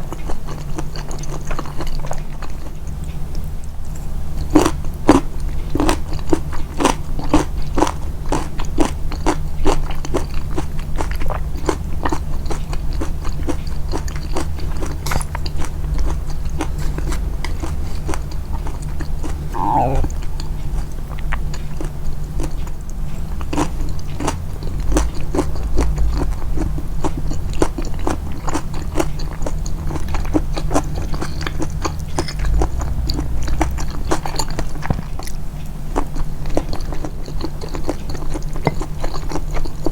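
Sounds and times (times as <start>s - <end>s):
chewing soft moist food: 0.0s - 39.9s
steady low hum: 0.0s - 39.9s.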